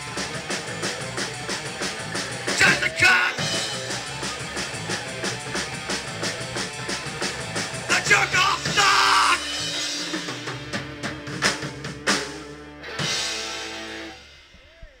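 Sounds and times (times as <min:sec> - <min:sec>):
live punk rock band playing: 0:00.0 - 0:14.5.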